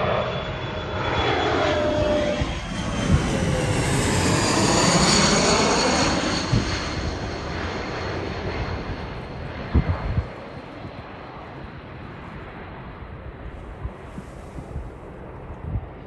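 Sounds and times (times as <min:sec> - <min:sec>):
gusty wind rumble: 0:00.0 - 0:16.0
jet engines whining overhead: 0:00.0 - 0:16.0.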